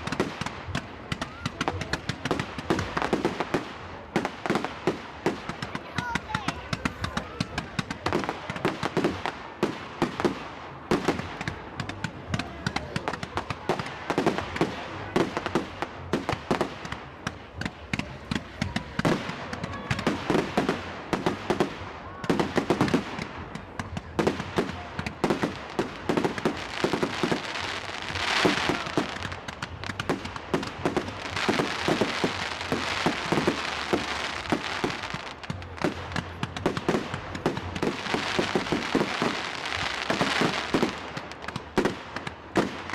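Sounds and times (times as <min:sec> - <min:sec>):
crackling hiss of fireworks: 0:00.0 - 0:42.9
fireworks banging: 0:00.0 - 0:42.9.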